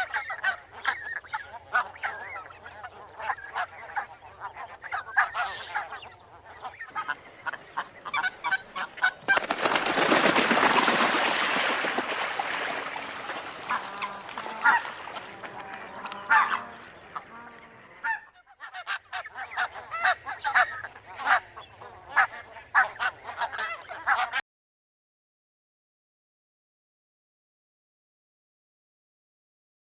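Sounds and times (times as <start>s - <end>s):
geese honking: 0.0s - 24.4s.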